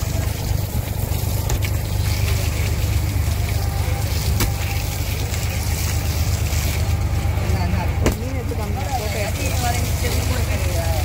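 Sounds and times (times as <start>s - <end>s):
hose spraying water: 0.0s - 11.0s
steady low rumble: 0.0s - 11.0s.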